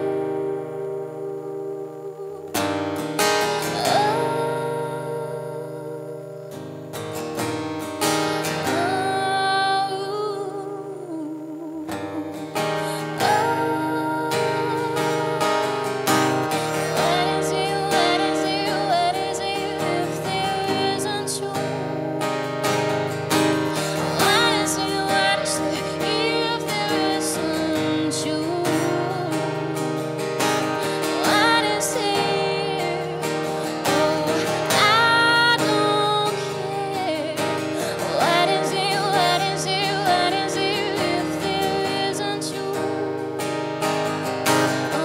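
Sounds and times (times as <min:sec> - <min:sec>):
acoustic guitar strumming: 0:00.0 - 0:45.0.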